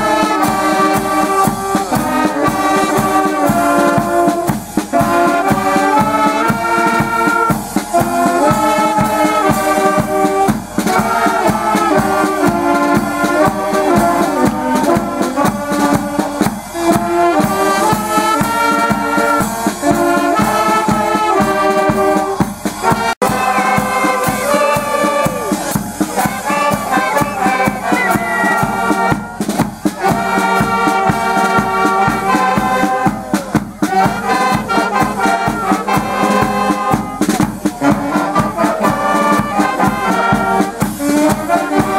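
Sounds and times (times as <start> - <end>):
brass band playing lively tune: 0.0 - 41.9.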